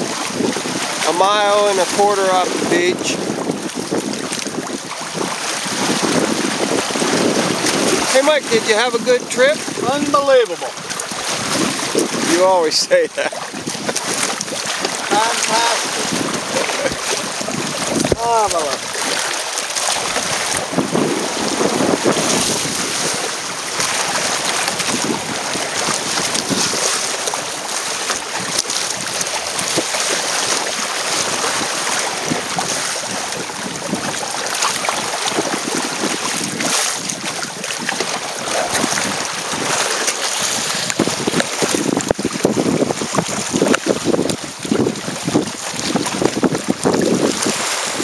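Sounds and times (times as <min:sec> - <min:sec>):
waves slapping against hull: 0:00.0 - 0:48.0
wind buffeting microphone: 0:00.0 - 0:48.0.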